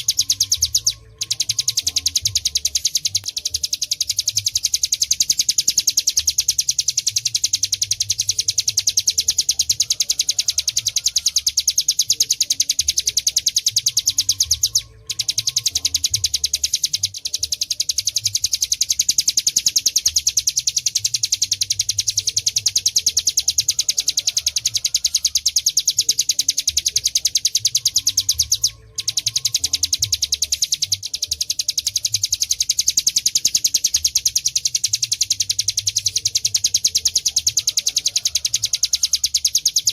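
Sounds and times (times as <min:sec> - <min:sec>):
bird singing fast rattling song: 0:00.0 - 0:39.9.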